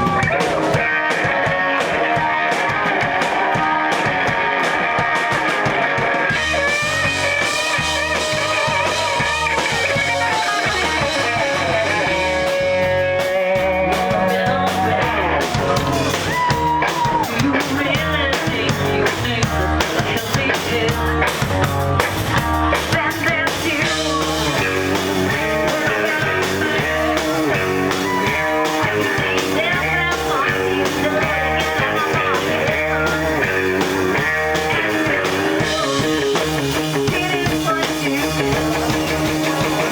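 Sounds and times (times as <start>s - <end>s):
bending guitar notes: 0.0s - 39.9s
rock band playing live: 0.0s - 39.9s.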